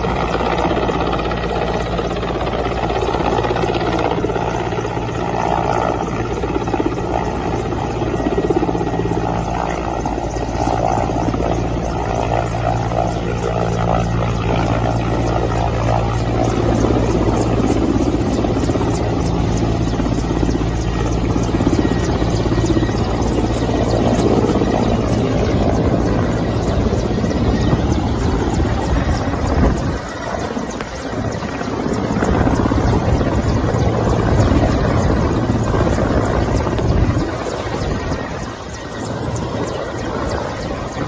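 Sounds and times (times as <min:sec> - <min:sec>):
helicopter engine and rotor drone: 0:00.0 - 0:41.0.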